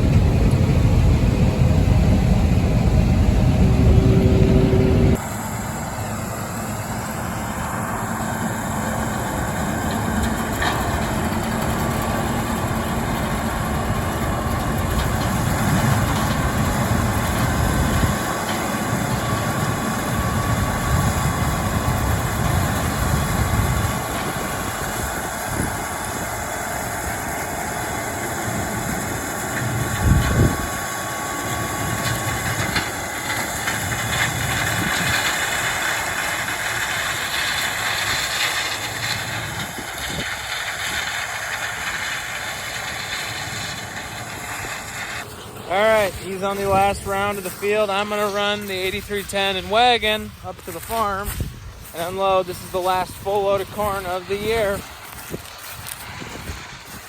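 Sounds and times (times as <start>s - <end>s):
harvest machinery engine rumble: 0.0s - 57.0s.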